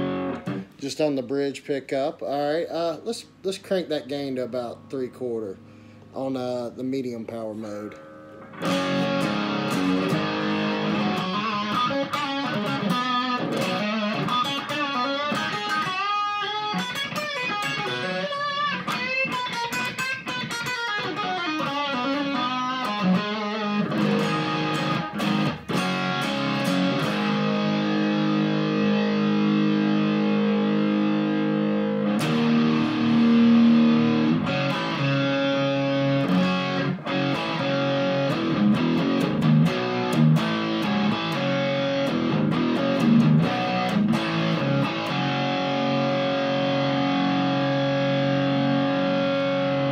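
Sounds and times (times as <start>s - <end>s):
distorted electric guitar lead: 0.0s - 0.8s, 7.6s - 49.9s.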